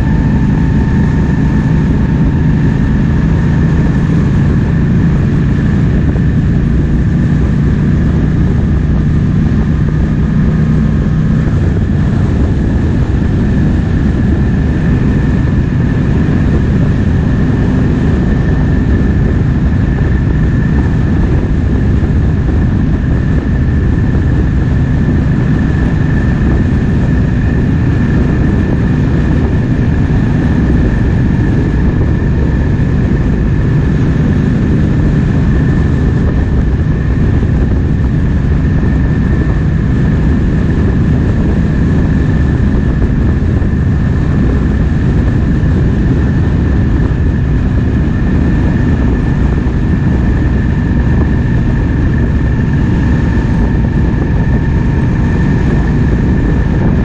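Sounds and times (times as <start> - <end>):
motorcycle engine cruising: 0.0 - 57.0
wind rush on microphone: 0.0 - 57.0
thin whine: 8.0 - 57.0.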